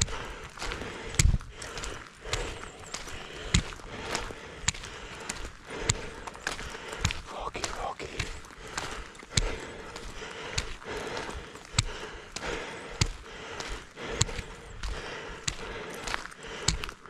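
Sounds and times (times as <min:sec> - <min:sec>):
tyres crunching over gravel: 0:00.0 - 0:17.0.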